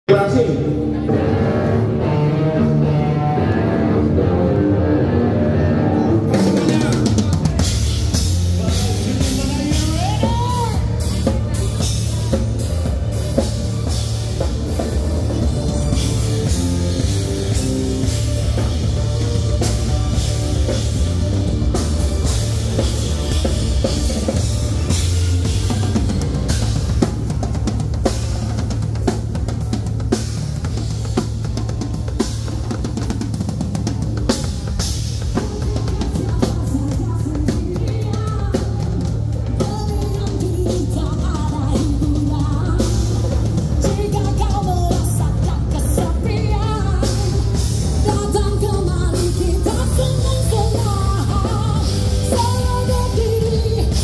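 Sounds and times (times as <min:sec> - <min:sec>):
live rock band playing: 0:00.1 - 0:54.0.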